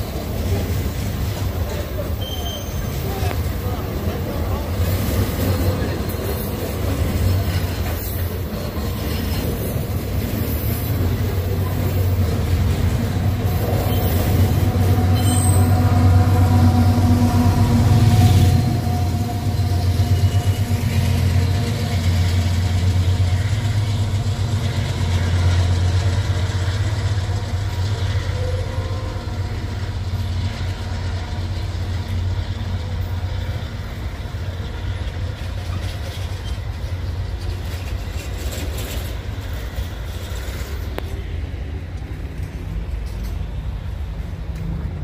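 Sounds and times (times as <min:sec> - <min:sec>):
wagons rolling on rails: 0:00.0 - 0:17.4, 0:18.0 - 0:45.0
diesel locomotive engine drone: 0:00.0 - 0:45.0.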